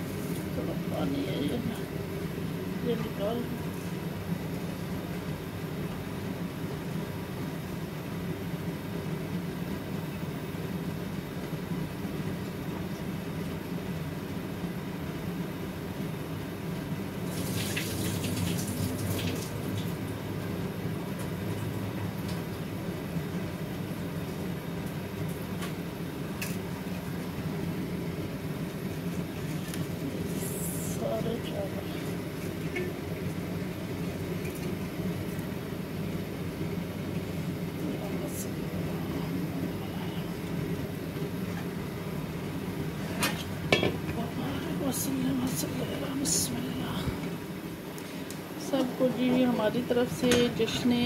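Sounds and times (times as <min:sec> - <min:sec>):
boiling liquid spitting: 0:00.0 - 0:10.0, 0:10.7 - 0:48.6
pot boiling and bubbling: 0:00.0 - 0:51.0.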